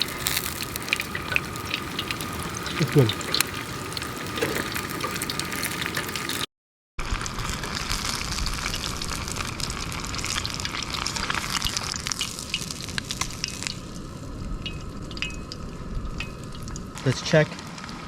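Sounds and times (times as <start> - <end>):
fish deep-frying in oil: 0.0 - 18.0.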